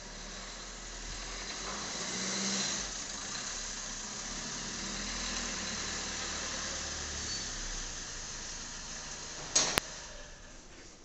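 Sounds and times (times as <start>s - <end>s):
car engine running: 0.0s - 10.7s.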